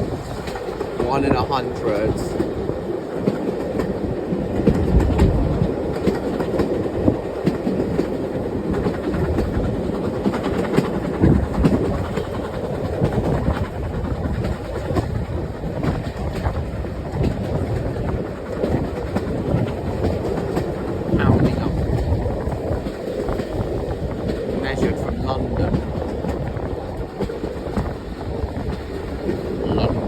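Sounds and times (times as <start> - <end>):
wheels clattering over rail joints: 0.0 - 30.0.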